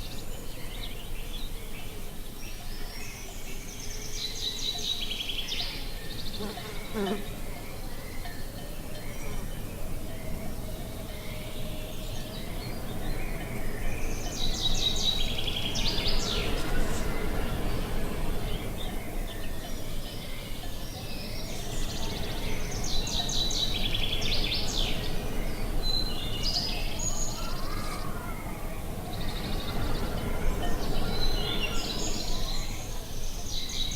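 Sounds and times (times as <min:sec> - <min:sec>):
low rush of wind: 0:00.0 - 0:33.9
songbirds singing trilled phrases: 0:00.0 - 0:33.9.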